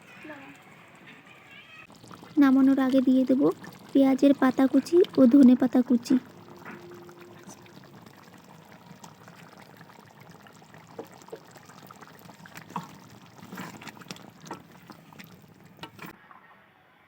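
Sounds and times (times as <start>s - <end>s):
thick gravy bubbling in a pan: 0.0s - 16.2s.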